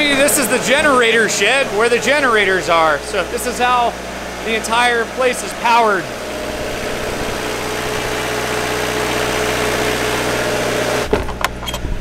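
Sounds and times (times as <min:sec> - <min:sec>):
generators running: 0:00.0 - 0:12.0.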